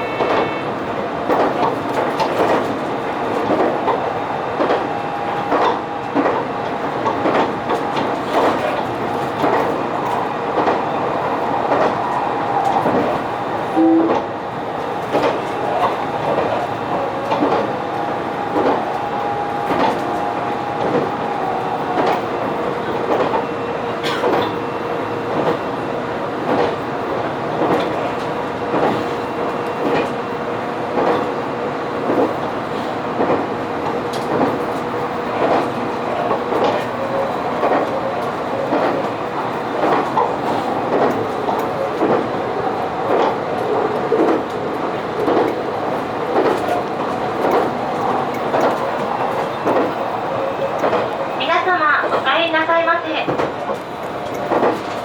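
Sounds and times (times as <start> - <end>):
train running hum: 0.0 - 55.0
train wheels clicking over joints: 0.0 - 55.0.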